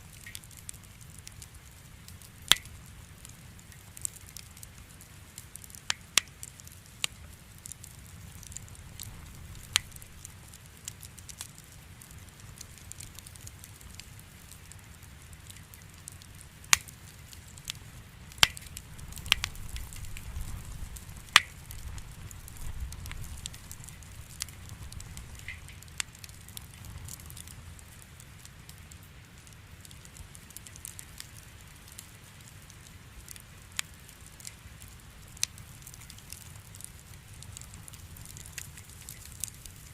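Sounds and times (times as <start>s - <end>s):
firewood crackling and popping: 0.0s - 39.9s
low rumble of flame: 0.0s - 39.9s.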